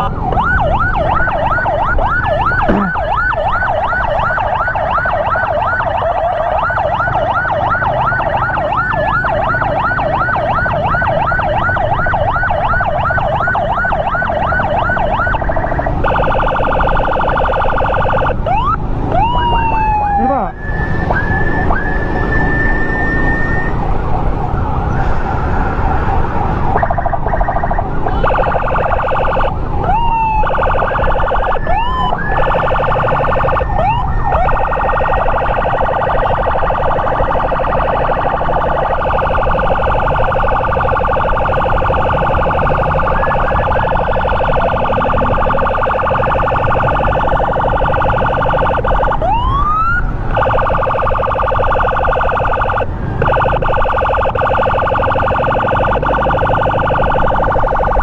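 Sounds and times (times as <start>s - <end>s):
electronic emergency siren: 0.0s - 58.0s
wind: 0.0s - 58.0s.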